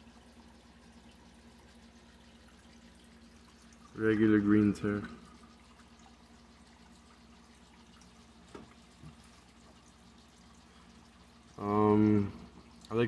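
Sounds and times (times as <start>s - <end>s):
aquarium filter humming: 0.0s - 13.0s
water trickling: 0.0s - 13.0s.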